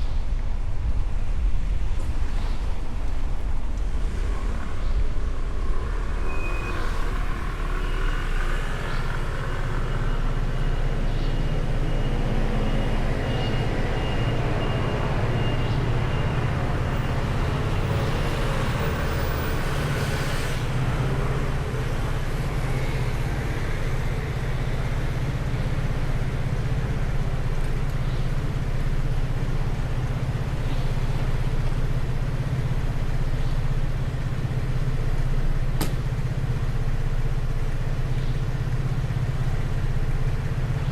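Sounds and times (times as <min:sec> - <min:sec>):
engine hum: 0:00.0 - 0:40.9
road noise rushing: 0:00.0 - 0:40.9.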